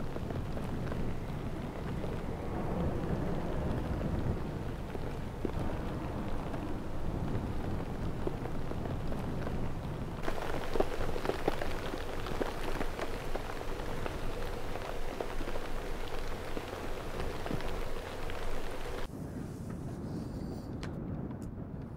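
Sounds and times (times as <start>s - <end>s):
snow ticking against surface: 0.0s - 19.1s
low wind rumble: 0.0s - 21.9s.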